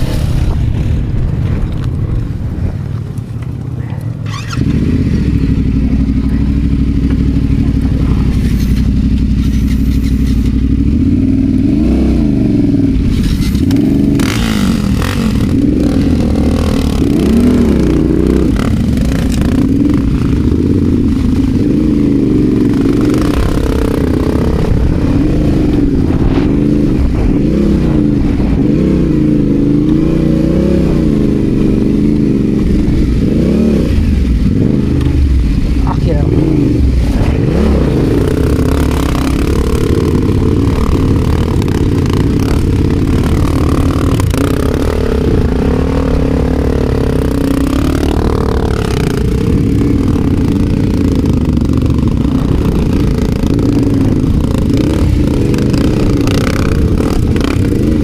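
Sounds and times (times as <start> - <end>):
motorcycle engine revving: 0.0 - 2.4, 3.5 - 58.0.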